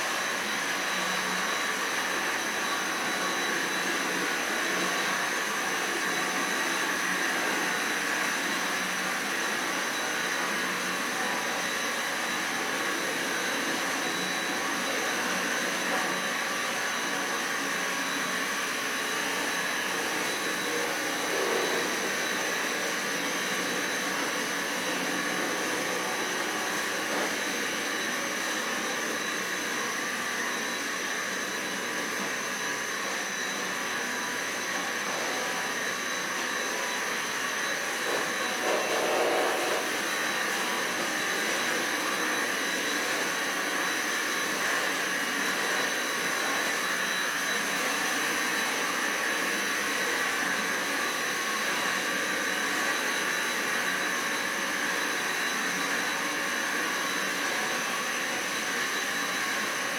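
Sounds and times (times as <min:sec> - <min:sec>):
vacuum cleaner motor whining: 0:00.0 - 0:59.9.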